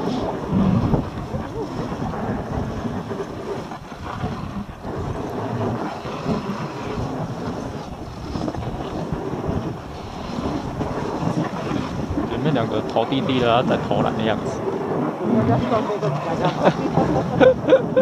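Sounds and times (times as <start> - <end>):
sled runners scraping over snow: 0.0 - 18.0
wind rumbling on microphone: 0.0 - 18.0.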